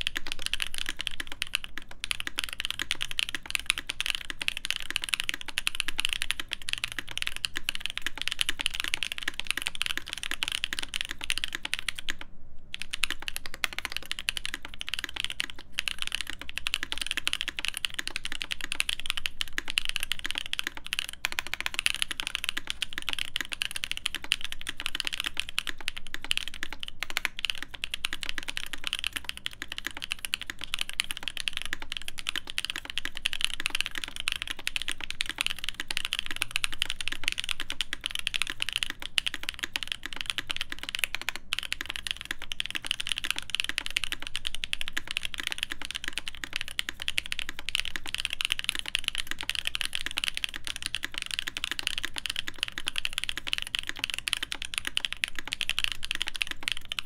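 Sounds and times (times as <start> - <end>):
fast mechanical keyboard typing: 0.0 - 57.0.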